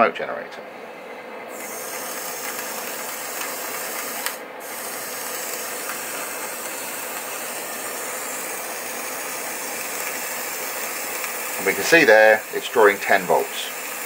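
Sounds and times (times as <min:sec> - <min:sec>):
heating element sizzling hiss: 0:01.5 - 0:14.0.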